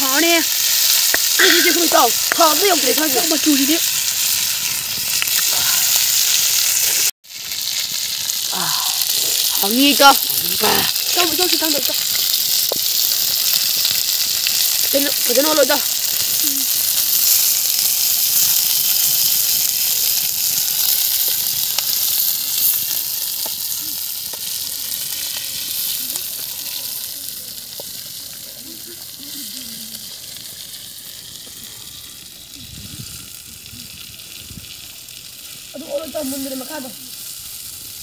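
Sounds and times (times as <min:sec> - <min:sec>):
fish sizzling in hot oil: 0:00.0 - 0:38.0
oil popping: 0:00.2 - 0:35.7.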